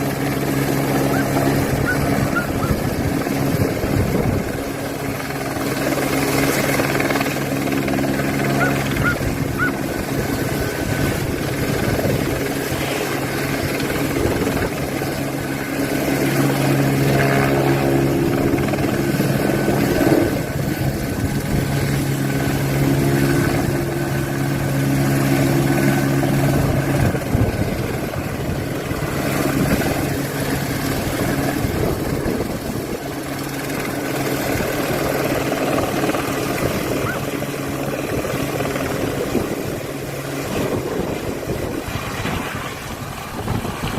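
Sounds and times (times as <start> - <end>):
helicopter running: 0.0 - 43.9.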